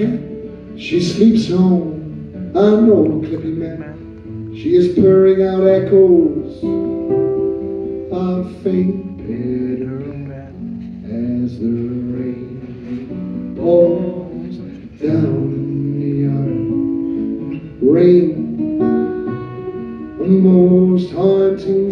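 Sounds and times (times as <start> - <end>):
man singing: 0.0 - 6.8, 8.1 - 18.7, 20.0 - 21.9
acoustic guitar strumming: 0.0 - 21.9.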